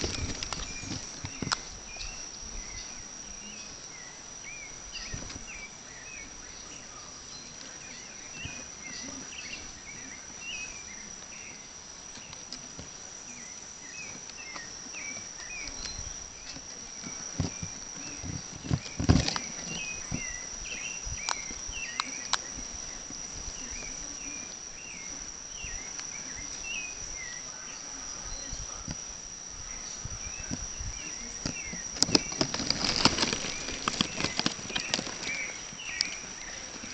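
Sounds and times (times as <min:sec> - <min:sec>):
high-pitched insect trill: 0:00.0 - 0:36.9
insect chirps: 0:00.0 - 0:36.9.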